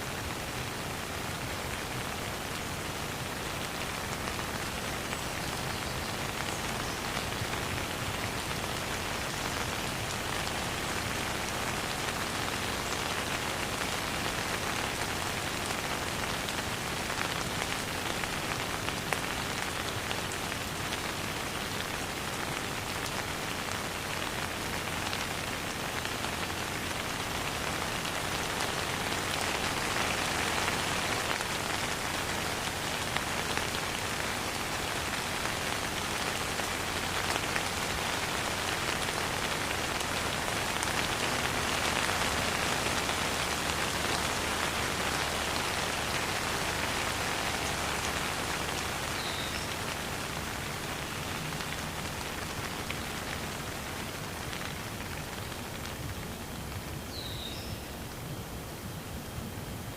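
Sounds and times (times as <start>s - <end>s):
rain pattering on a surface: 0.0s - 58.6s.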